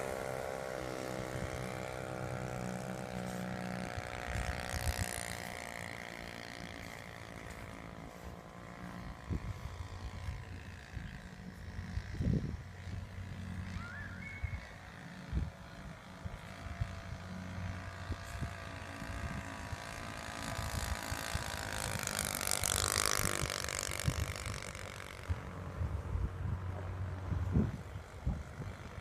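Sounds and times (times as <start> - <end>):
model airplane engine buzzing: 0.0 - 29.0
wind rumbling on microphone: 0.0 - 29.0.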